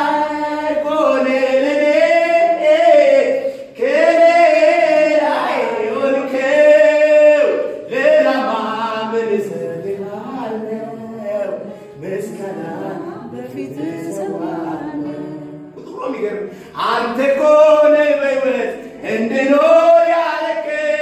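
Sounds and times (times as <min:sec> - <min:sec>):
man singing loudly: 0:00.0 - 0:21.0.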